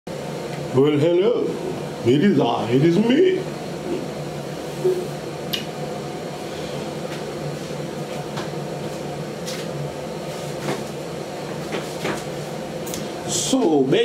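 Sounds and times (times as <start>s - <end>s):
mechanical hum: 0.1s - 14.0s.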